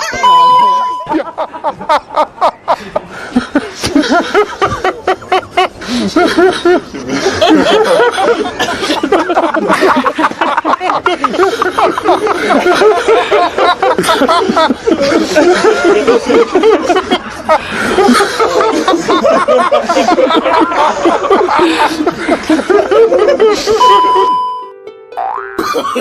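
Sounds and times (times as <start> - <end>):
several people laughing: 0.0 - 24.4, 25.2 - 26.0.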